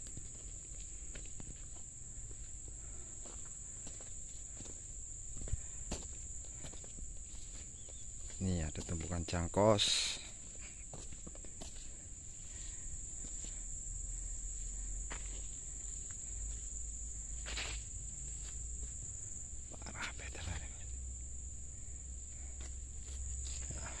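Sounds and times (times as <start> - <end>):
footsteps on dirt track: 0.0 - 19.2, 22.5 - 24.0
high-pitched insect chorus: 0.0 - 24.0.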